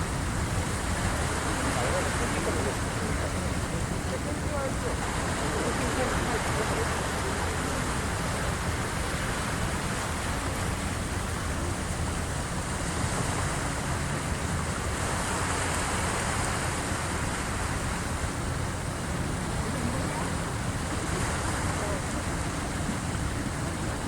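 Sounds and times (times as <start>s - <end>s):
waves washing against shore: 0.0s - 24.0s.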